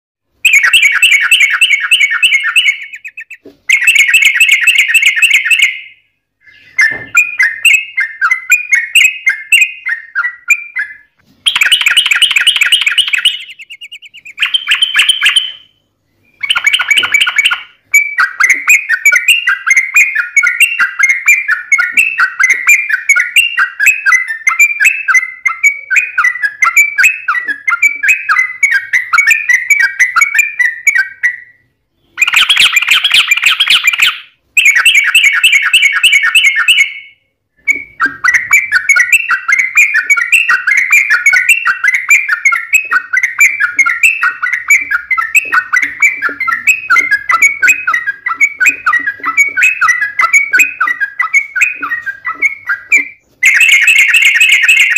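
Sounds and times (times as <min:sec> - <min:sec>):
bulbul singing bubbling song: 0:00.4 - 0:54.9.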